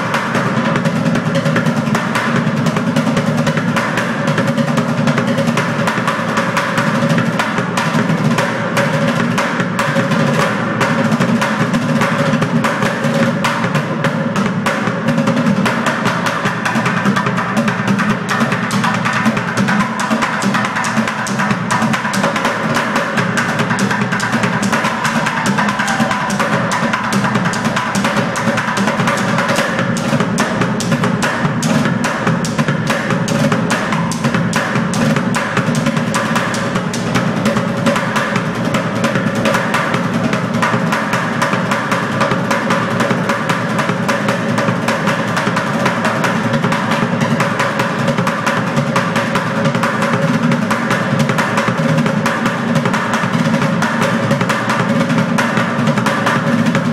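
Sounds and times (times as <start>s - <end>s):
bucket drumming with sticks: 0.0s - 56.9s.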